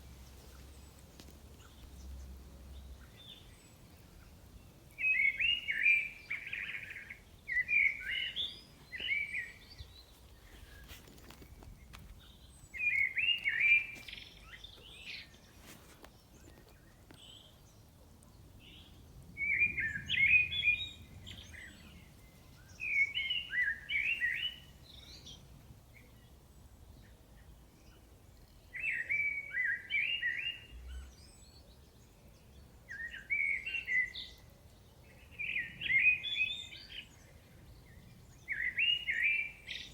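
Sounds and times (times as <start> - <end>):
faint outdoor background: 0.0 - 39.9
songbird singing: 0.0 - 39.9.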